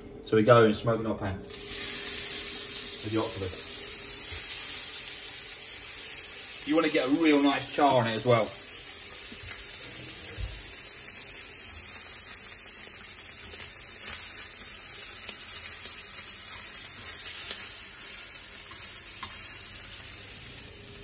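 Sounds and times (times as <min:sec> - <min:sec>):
octopus sizzling on a griddle: 0:01.5 - 0:21.0.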